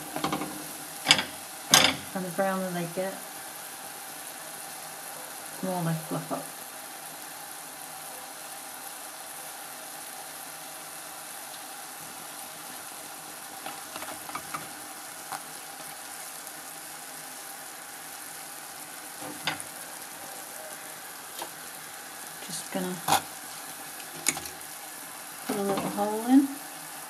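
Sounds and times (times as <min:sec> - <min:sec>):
dough frying in oil: 0:00.0 - 0:27.0.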